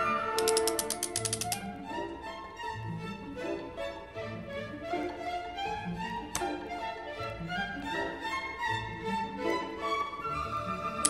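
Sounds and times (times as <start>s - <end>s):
bowed string music: 0.0s - 11.0s.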